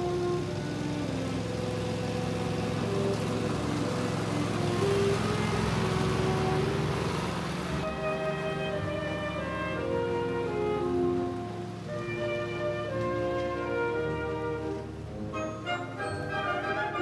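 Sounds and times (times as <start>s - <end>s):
riding lawn mower cutting grass: 0.0s - 17.0s
soft background music: 0.0s - 17.0s.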